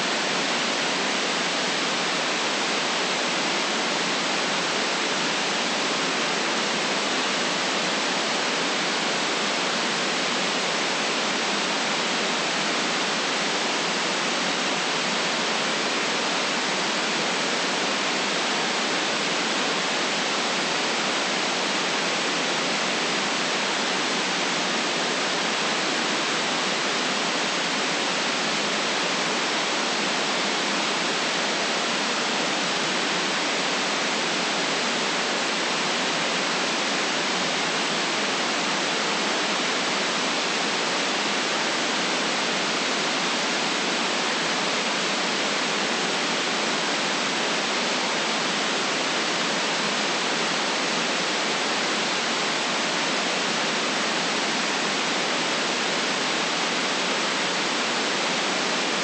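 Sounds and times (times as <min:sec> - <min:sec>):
steady white noise hiss: 0:00.0 - 0:59.0.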